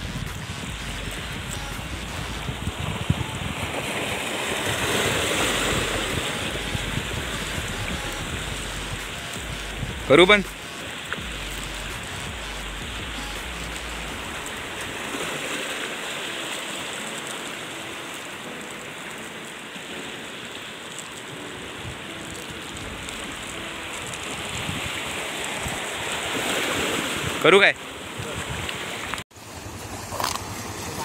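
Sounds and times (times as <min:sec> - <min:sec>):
sea water washing on shore: 0:00.0 - 0:31.0.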